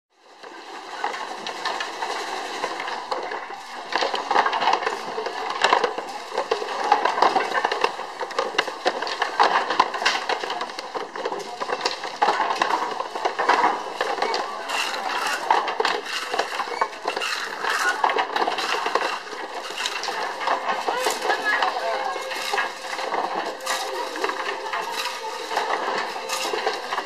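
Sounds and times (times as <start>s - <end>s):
wooden handloom clattering: 0.3s - 27.0s.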